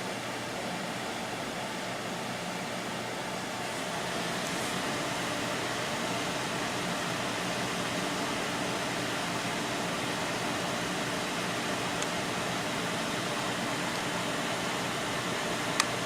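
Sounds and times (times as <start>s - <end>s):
computer cooling fans rushing: 0.0s - 16.0s.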